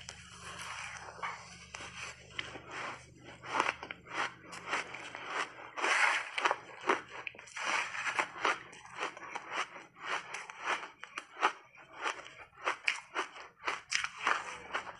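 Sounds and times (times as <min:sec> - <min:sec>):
crunching shaved ice: 0:00.0 - 0:14.9.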